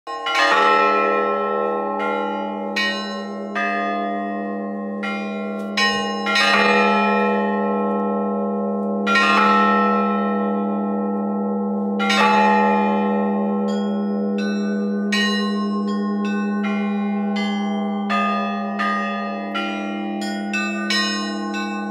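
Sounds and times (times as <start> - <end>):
church bells ringing: 0.1 - 21.9
deep bell tone: 0.1 - 21.9.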